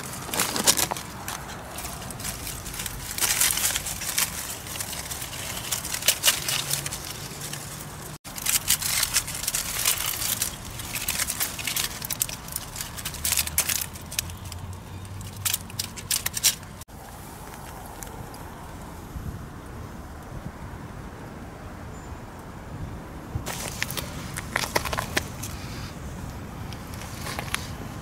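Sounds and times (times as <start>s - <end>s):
twigs and leaves crackling: 0.0s - 19.0s, 23.4s - 28.0s.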